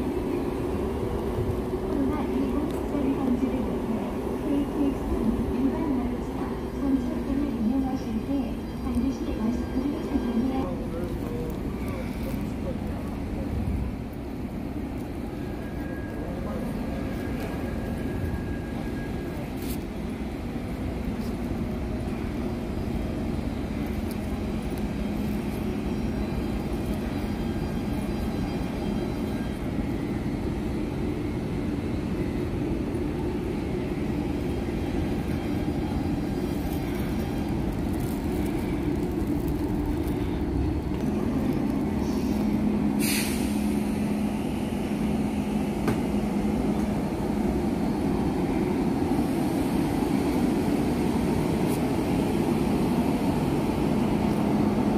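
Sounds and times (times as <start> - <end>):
electric train rumbling on rails: 0.0 - 54.9.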